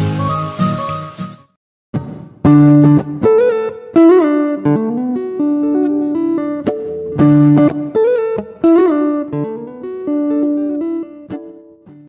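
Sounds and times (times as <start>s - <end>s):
guitar melody with bent notes: 0.0s - 12.0s.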